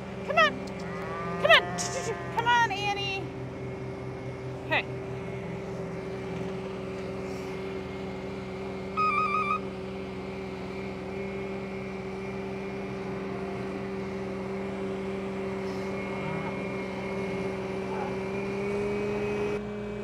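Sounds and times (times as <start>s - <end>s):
farm machinery engine running: 0.0s - 20.0s.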